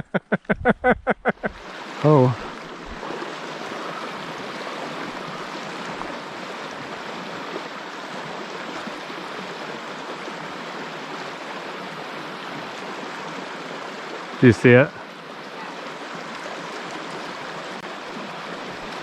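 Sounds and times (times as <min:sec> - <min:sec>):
river current rushing: 0:01.3 - 0:19.0.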